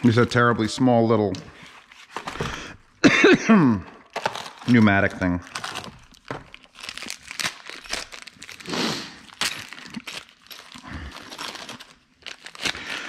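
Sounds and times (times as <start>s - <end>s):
plastic packaging crinkling: 0.0s - 2.5s, 4.1s - 13.0s.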